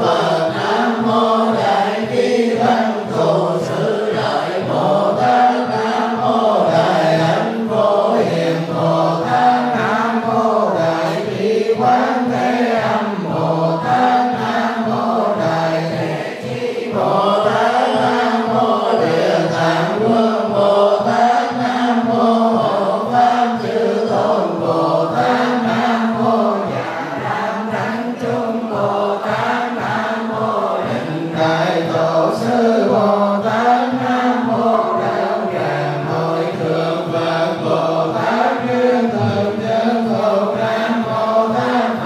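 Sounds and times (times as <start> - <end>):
monks chanting: 0.0 - 42.0
steady beat: 0.0 - 42.0.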